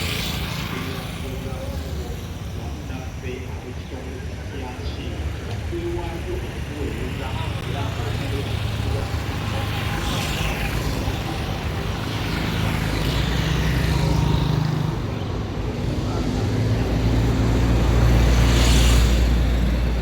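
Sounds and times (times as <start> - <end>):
vehicles passing close by: 0.0 - 20.0.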